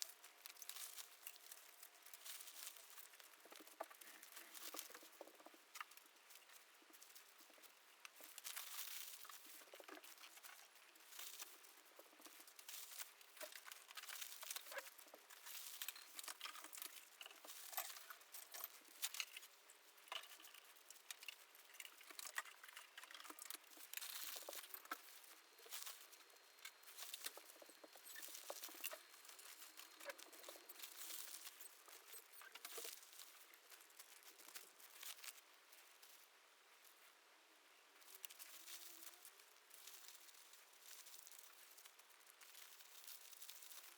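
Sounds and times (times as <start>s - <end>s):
faint crackling and rustling: 0.0s - 43.9s.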